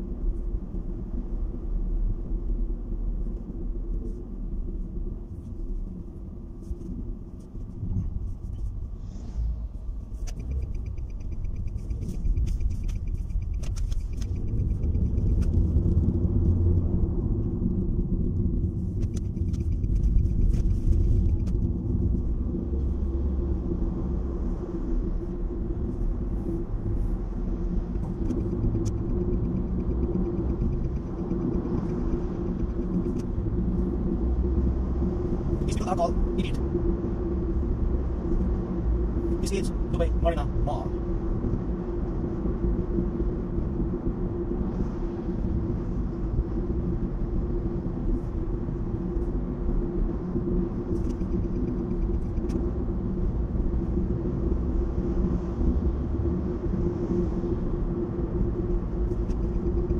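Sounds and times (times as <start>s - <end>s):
tyre and engine rumble: 3.4s - 59.9s.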